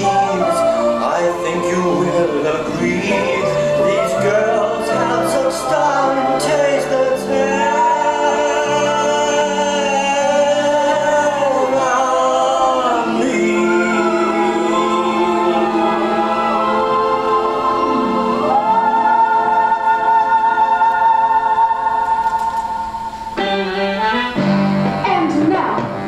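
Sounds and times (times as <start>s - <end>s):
vocal group singing harmonies: 0.0s - 24.2s.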